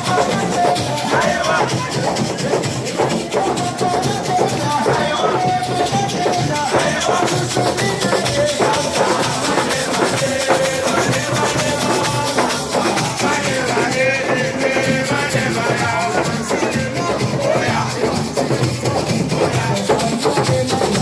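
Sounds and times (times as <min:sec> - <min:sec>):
shakers and drums: 0:00.0 - 0:21.0.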